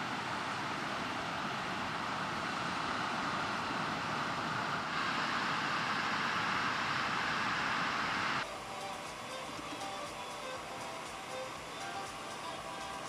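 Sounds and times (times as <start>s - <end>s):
surf rushing on beach: 0.0s - 13.0s.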